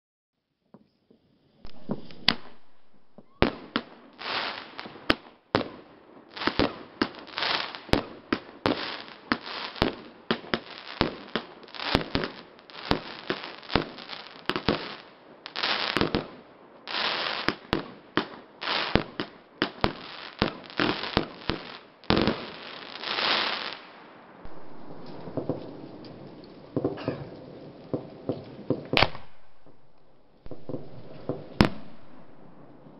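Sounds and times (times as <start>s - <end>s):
fireworks bangs: 1.6s - 32.9s.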